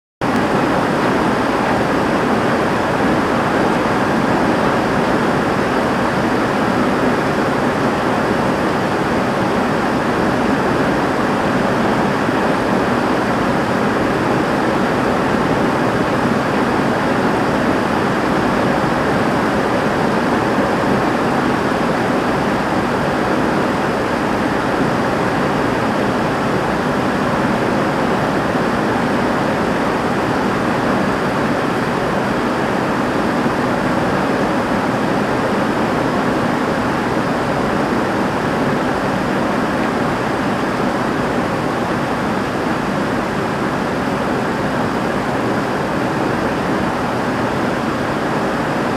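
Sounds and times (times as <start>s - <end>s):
heavy rain on a roof: 0.2s - 48.9s.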